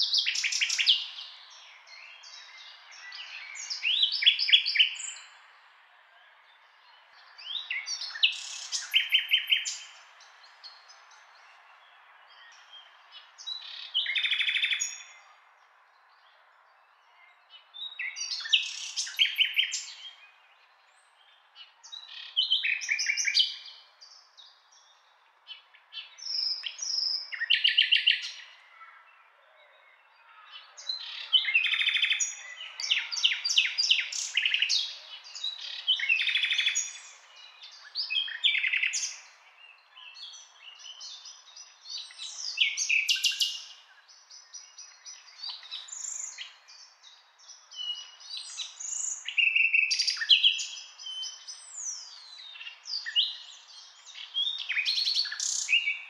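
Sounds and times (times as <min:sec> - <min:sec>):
nightingale singing: 0:00.0 - 0:05.5, 0:06.6 - 0:16.2, 0:16.9 - 0:28.6, 0:29.7 - 0:56.0.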